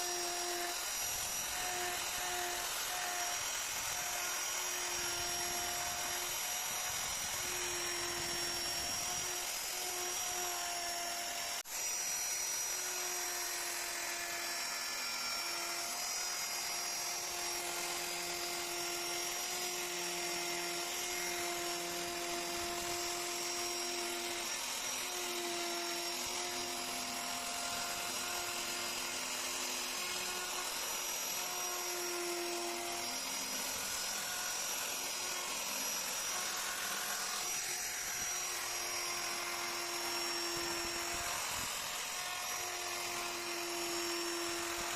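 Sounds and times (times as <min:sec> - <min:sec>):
power tool carving wood: 0:00.0 - 0:44.9.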